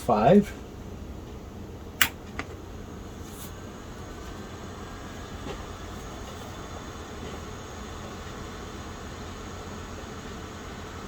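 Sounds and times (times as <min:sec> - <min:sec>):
computer humming and hissing: 0:00.0 - 0:11.0.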